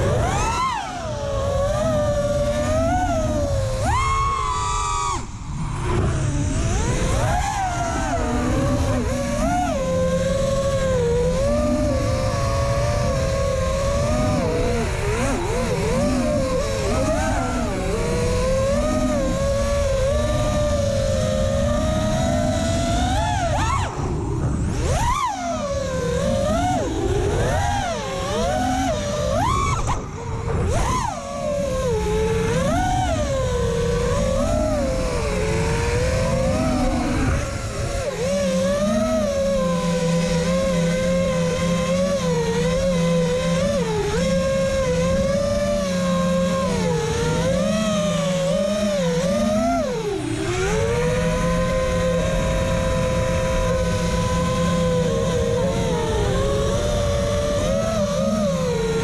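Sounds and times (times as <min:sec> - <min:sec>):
drone motors whining: 0:00.0 - 0:59.0
wind rush on microphone: 0:00.0 - 0:59.0.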